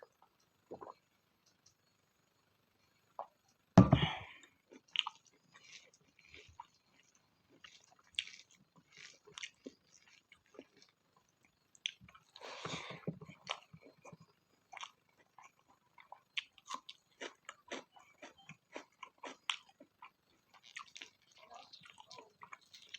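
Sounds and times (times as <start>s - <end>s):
mouth chewing food: 4.3s - 22.9s.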